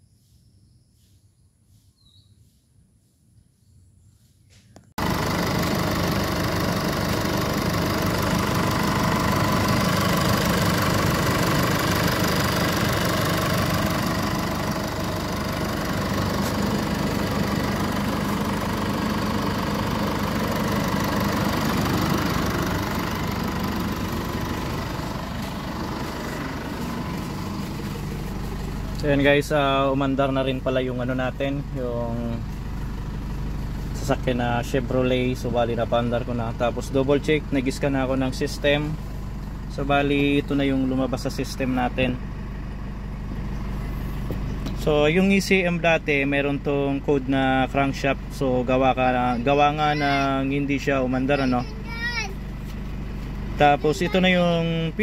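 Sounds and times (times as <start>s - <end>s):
engine idling: 5.0s - 55.0s.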